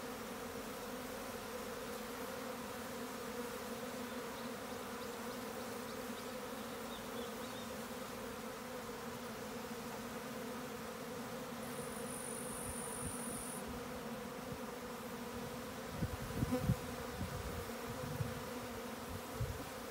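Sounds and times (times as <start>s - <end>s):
honeybees buzzing: 0.0s - 19.9s.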